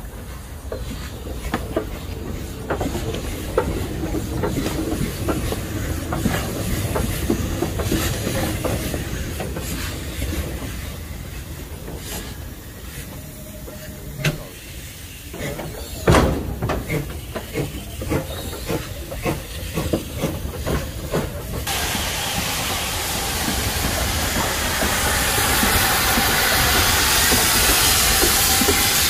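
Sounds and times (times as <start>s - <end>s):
loud steam hiss: 0.0s - 29.0s
steam locomotive chuffing: 0.0s - 29.0s.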